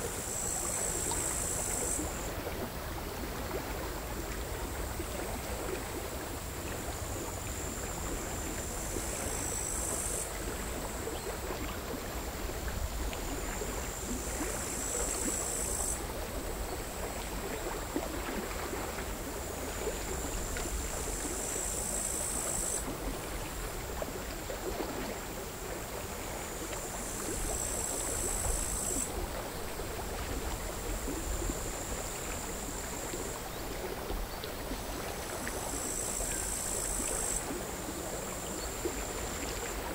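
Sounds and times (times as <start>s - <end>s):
bush crickets buzzing: 0.0s - 39.9s
small waves lapping: 0.0s - 39.9s.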